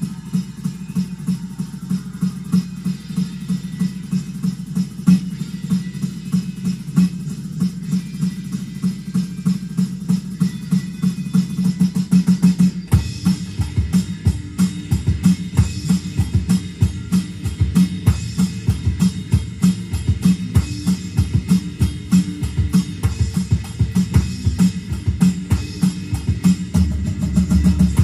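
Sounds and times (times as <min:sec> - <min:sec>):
electronic drum kit playing: 0:00.0 - 0:28.0.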